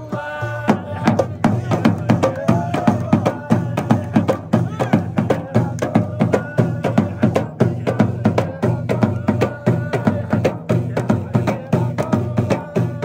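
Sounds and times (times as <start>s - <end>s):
hand drums fast rhythm: 0.0s - 13.0s
man chanting: 0.0s - 13.0s.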